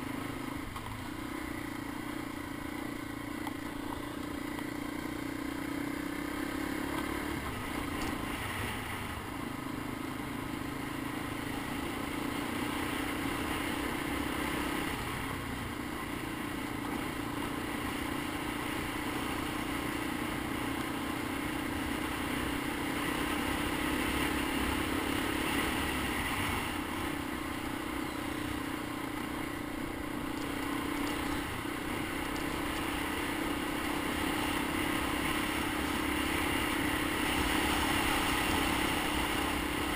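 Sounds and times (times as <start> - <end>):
single-cylinder engine running: 0.0 - 39.9
wind and tyre noise: 0.0 - 39.9.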